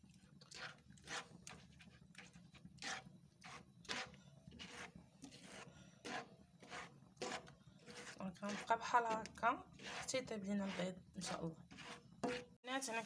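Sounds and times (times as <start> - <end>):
spatula scraping eggs in a pan: 0.0 - 13.0.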